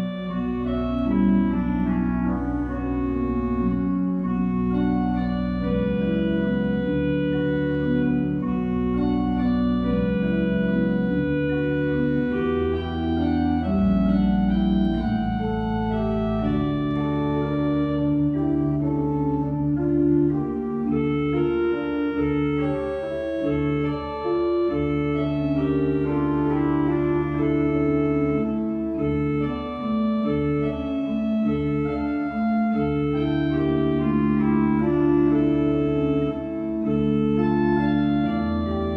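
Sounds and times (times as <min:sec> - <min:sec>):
pipe organ playing chords: 0:00.0 - 0:38.9.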